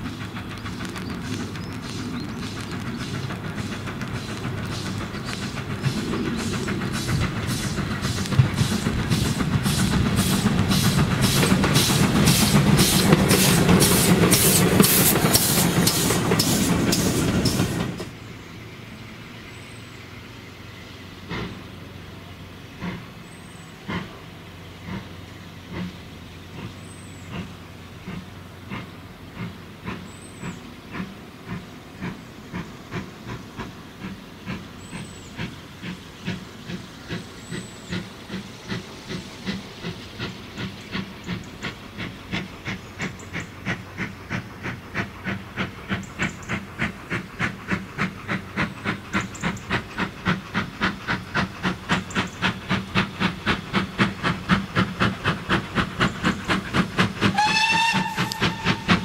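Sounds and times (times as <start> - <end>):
steady steam hiss: 0.0 - 59.0
steam locomotive exhaust beats: 0.0 - 59.0.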